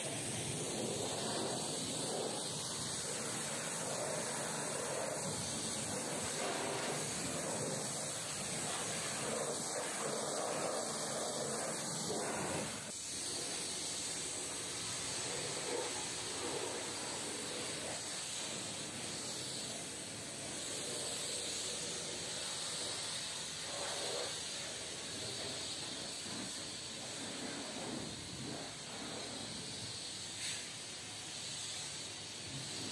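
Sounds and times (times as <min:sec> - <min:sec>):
pressure washer jet hissing: 0:00.0 - 0:32.9.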